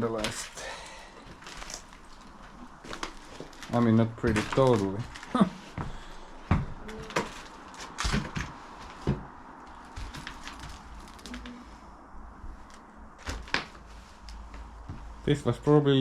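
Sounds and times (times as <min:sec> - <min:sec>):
faint low rumble: 0:00.0 - 0:16.0.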